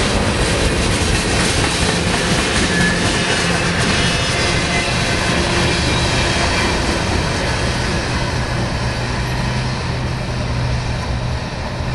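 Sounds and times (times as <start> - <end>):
freight train rolling on rails: 0.0 - 11.9.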